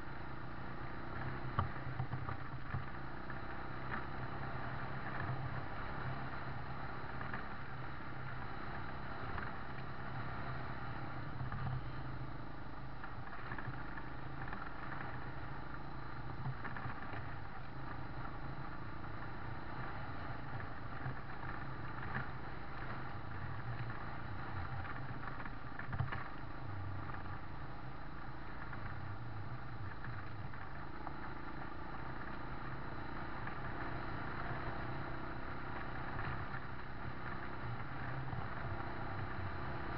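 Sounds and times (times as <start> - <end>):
rattling and road noise: 0.0 - 39.9
vehicle engine running: 0.0 - 39.9.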